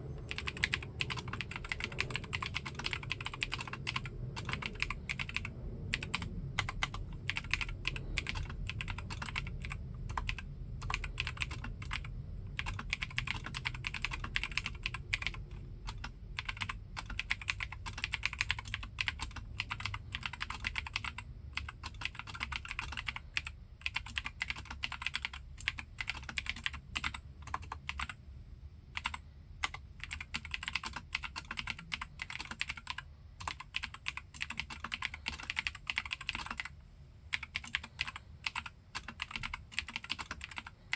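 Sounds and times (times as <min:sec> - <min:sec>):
mechanical keyboard typing clicks: 0:00.2 - 0:28.2, 0:29.0 - 0:36.7, 0:37.3 - 0:40.9.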